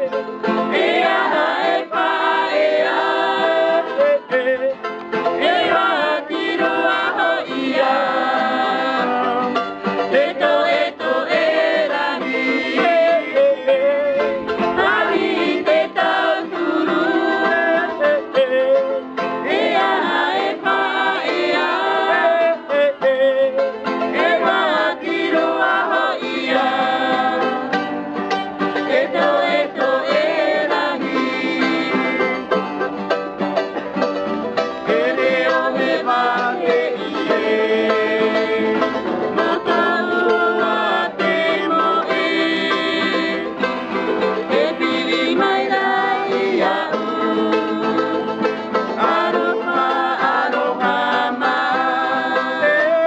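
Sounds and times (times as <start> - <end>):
men singing together: 0.0 - 28.0, 28.7 - 32.5, 34.8 - 53.0
banjo-like plucked string strumming: 0.0 - 53.0
strummed acoustic guitar: 0.0 - 53.0.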